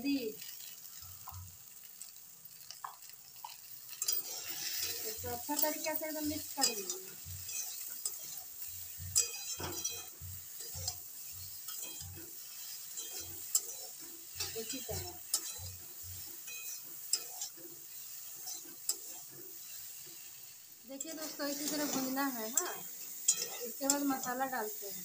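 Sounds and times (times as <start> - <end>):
light sizzle of frying: 0.0 - 25.0
metal spatula scraping a pan: 3.4 - 25.0.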